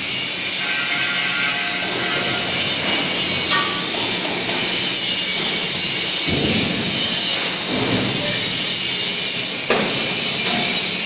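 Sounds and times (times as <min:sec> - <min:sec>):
plasma cutter hiss and whine: 0:00.0 - 0:11.0.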